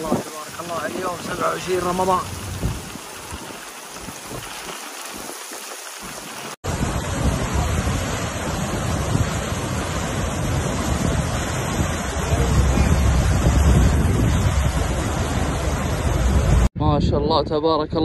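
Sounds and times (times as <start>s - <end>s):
wind buffeting microphone: 0.0s - 5.4s, 6.1s - 18.0s
flood torrent rushing: 0.0s - 16.7s.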